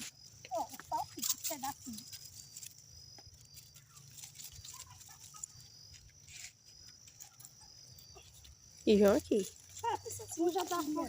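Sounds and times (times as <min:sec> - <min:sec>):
dry sticks rustling and clicking: 0:00.0 - 0:11.0.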